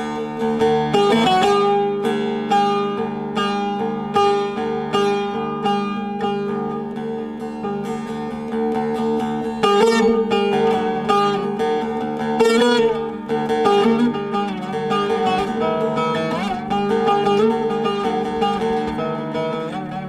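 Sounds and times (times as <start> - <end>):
plucked string melody: 0.0 - 20.0.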